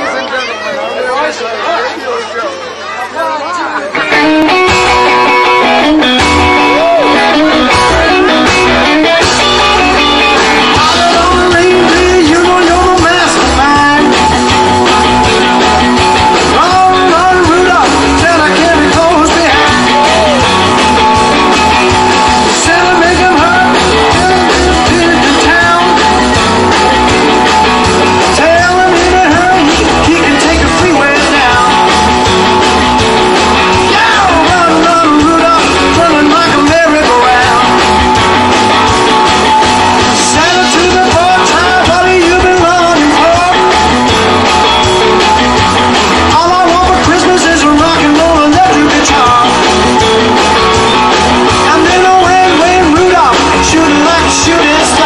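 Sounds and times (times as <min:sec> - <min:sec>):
live rock and roll band: 0:03.0 - 0:55.0.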